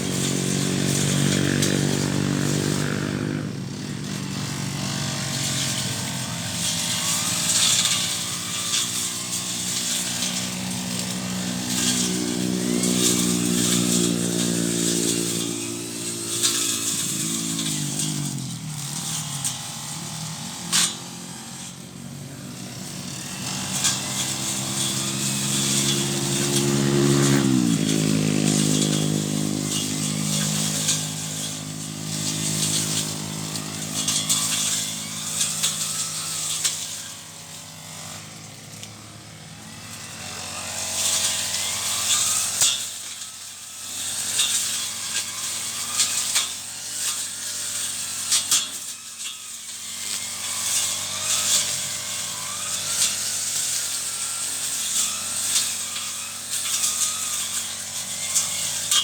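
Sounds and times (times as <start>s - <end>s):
brush cutter engine: 0.0s - 59.0s.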